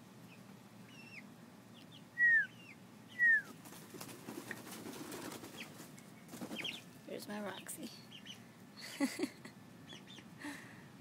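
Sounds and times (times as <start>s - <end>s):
young hens cheeping: 0.2s - 10.8s.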